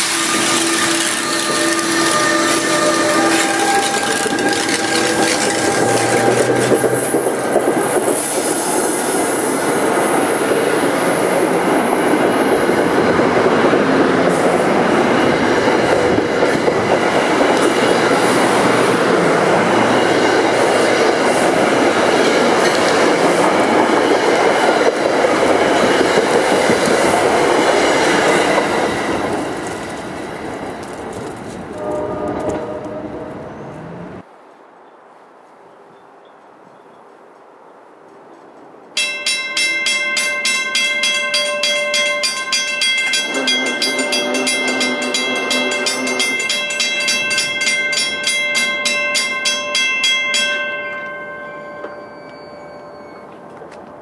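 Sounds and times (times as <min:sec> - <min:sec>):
coaches clattering over rails: 0:00.0 - 0:33.0, 0:39.0 - 0:54.0
train rolling into station: 0:00.0 - 0:34.3, 0:39.0 - 0:54.0.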